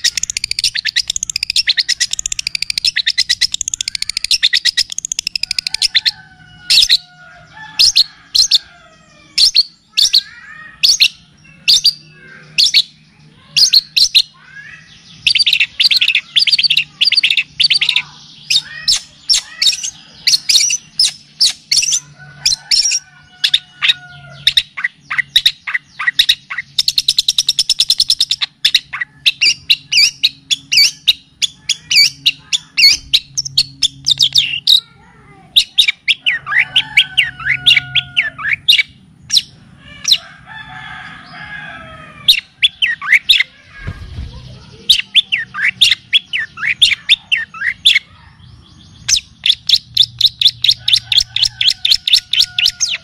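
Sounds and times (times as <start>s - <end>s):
songbird chirping and trilling: 0.0s - 53.0s.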